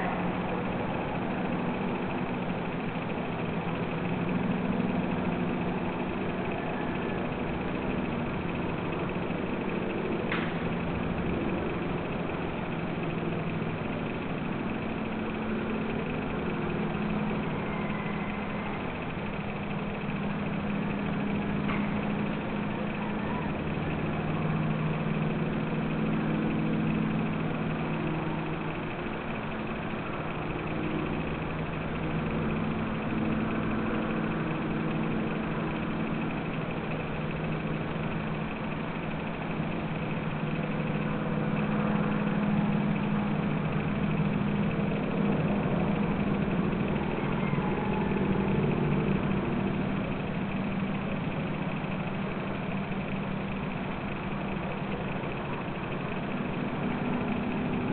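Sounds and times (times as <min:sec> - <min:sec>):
mechanical hum with low drone: 0:00.0 - 0:57.9.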